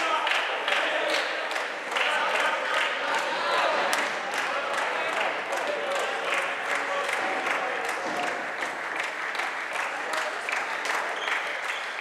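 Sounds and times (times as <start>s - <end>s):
sharp knocks and claps: 0.0s - 12.0s
voices and shouts in hall: 0.0s - 12.0s.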